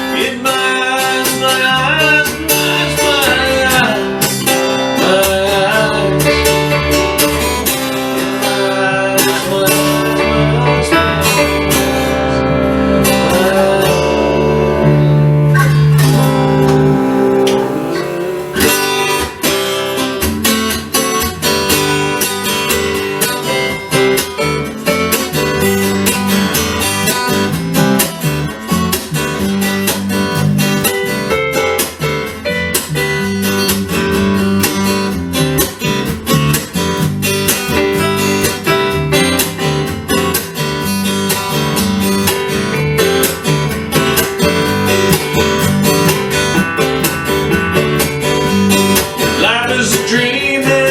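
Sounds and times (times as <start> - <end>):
acoustic guitar playing: 0.0 - 50.9.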